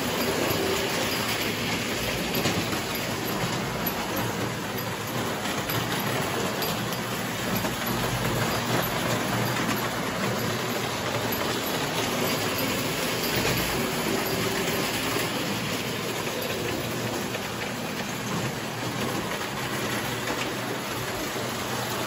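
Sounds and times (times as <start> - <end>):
wind-up toy train running on track: 0.0 - 22.0.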